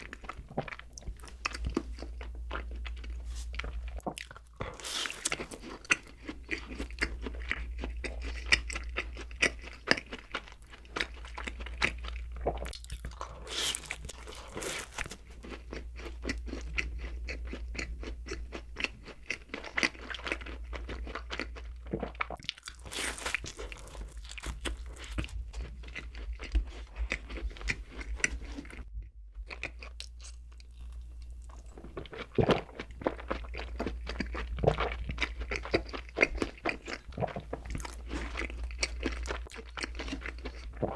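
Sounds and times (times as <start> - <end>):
person chewing and biting: 0.0 - 40.9.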